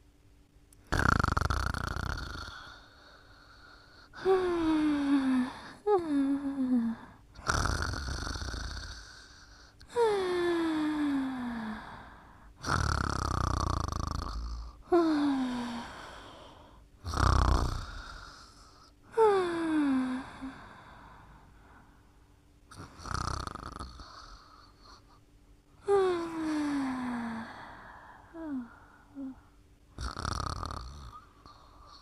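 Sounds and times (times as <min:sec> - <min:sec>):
person snoring: 0:00.8 - 0:21.4, 0:22.7 - 0:25.2, 0:25.8 - 0:32.0.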